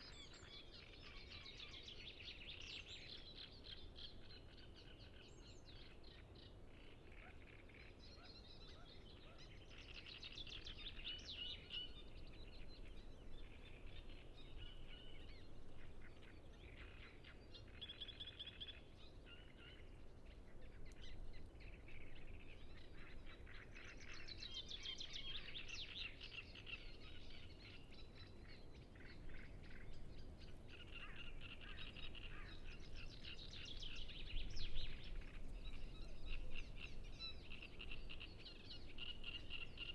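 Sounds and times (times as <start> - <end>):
warbler song: 0.0 - 39.9.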